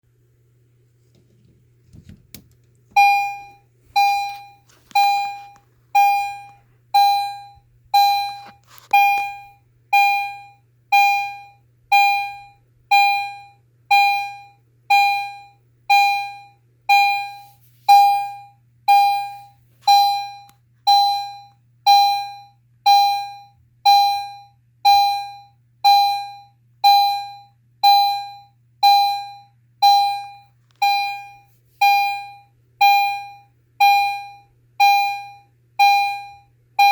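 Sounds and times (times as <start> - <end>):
fire alarm chime tone: 3.0 - 36.9.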